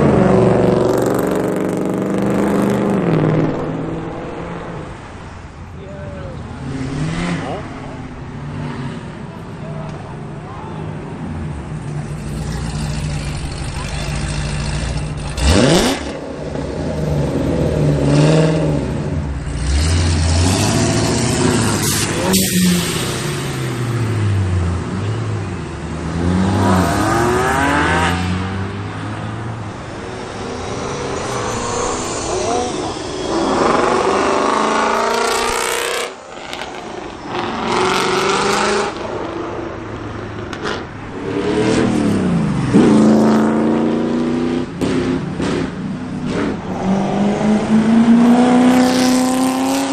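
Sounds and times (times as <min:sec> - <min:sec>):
cars accelerating away: 0:00.0 - 0:05.2, 0:11.2 - 0:49.9.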